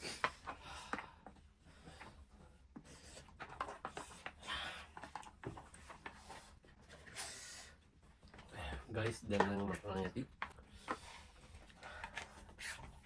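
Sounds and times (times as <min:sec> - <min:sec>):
small clicks and scraping: 0:00.2 - 0:07.2, 0:08.2 - 0:13.0.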